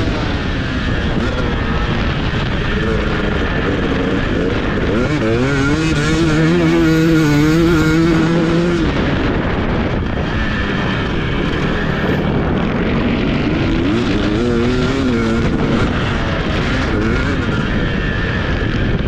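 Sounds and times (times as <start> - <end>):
even rushing noise: 0.0 - 19.0
motocross bike engine revving: 0.0 - 19.0.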